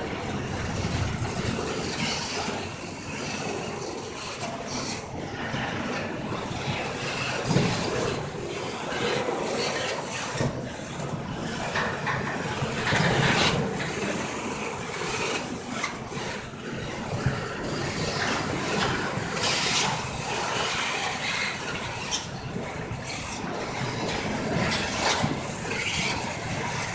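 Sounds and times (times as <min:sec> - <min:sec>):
train wheels rushing on rail: 0:00.0 - 0:26.9.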